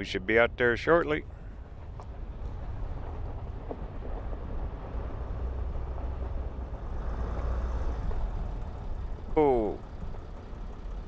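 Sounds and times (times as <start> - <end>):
van engine and tyres on gravel: 0.1 - 11.0.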